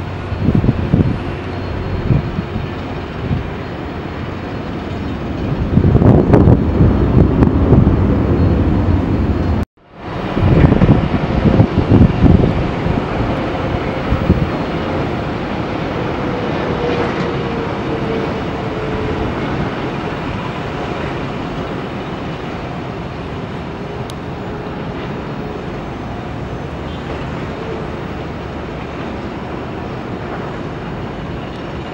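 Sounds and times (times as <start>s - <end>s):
jet engine roar: 0.0s - 31.9s
wind rumble on microphone: 0.0s - 31.9s.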